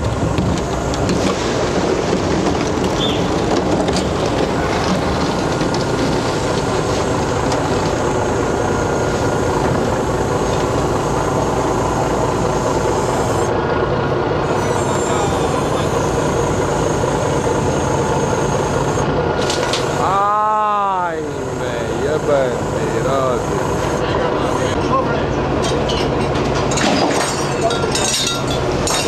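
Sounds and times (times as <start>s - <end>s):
crane engine running: 0.0s - 29.0s.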